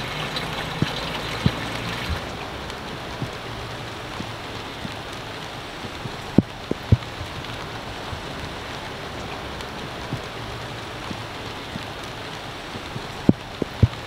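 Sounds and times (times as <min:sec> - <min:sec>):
heavy raindrops hitting: 0:00.0 - 0:14.0
rain falling on water and boat: 0:00.0 - 0:14.0.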